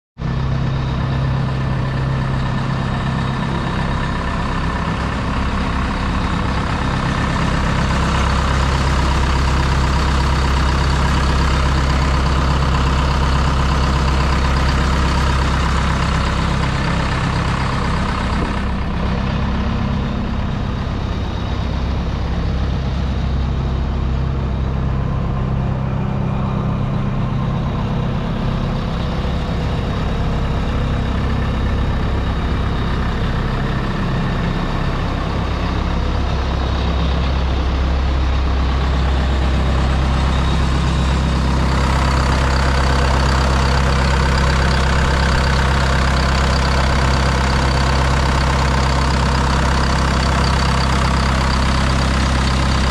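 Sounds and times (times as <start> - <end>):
wood chipper engine idling: 0.2 - 52.9.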